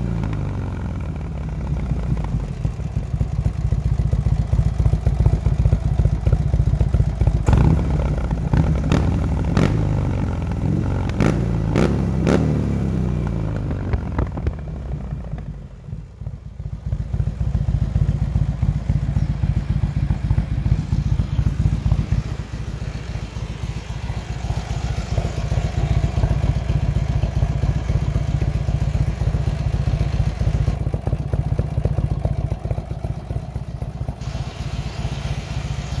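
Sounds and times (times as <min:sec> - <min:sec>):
motorcycle exhaust idling: 0:00.0 - 0:36.0.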